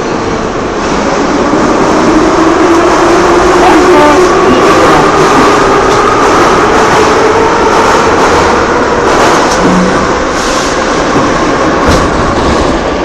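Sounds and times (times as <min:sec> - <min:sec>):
train rumble with whine: 0:00.0 - 0:13.0.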